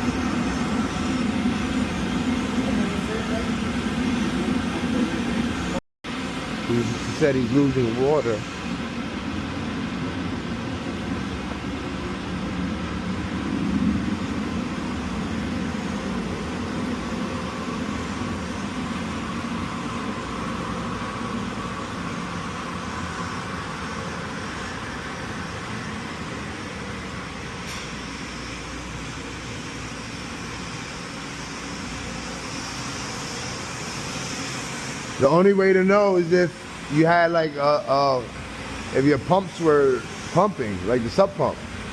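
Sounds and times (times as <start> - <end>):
machinery rumbling: 0.0 - 41.9.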